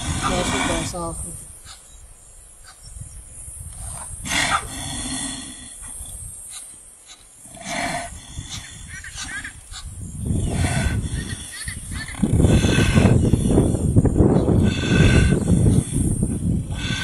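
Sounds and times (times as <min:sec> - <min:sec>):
lioness calls: 0:00.0 - 0:01.9, 0:03.9 - 0:17.0.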